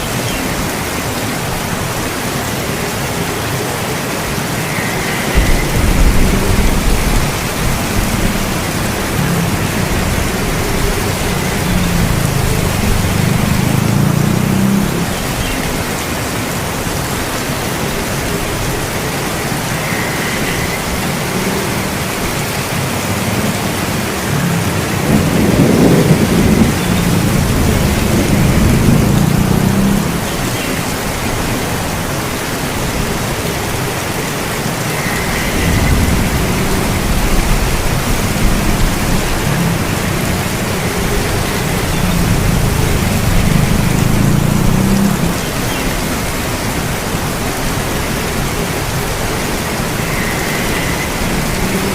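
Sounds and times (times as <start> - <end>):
heavy rain: 0.0 - 51.9
thunder rumbling: 4.2 - 51.9.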